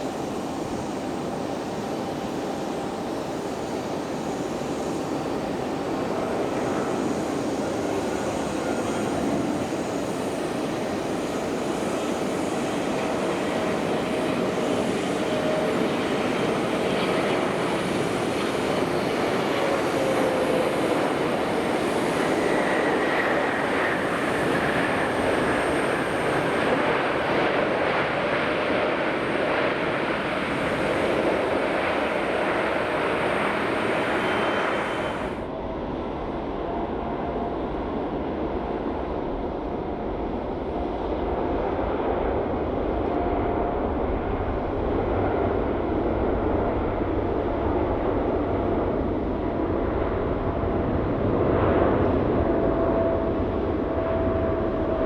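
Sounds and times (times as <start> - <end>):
faint engine whine: 0.0 - 55.0
jet engines rumbling: 0.0 - 55.0.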